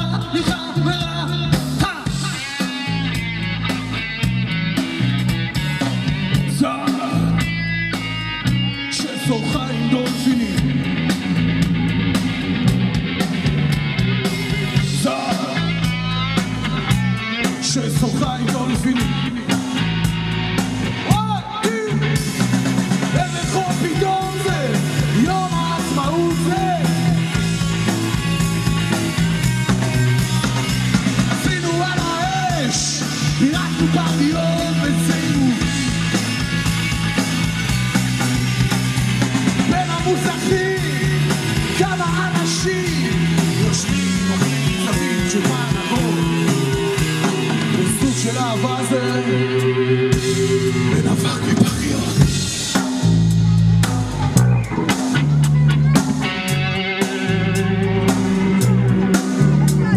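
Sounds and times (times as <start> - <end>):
drum kit: 0.0 - 59.9
electric bass: 0.0 - 59.9
electric guitar lead: 0.0 - 59.9.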